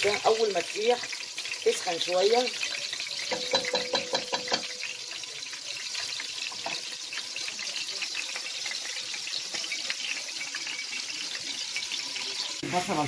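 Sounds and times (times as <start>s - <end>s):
oil sizzling and crackling in a pot: 0.0s - 13.0s.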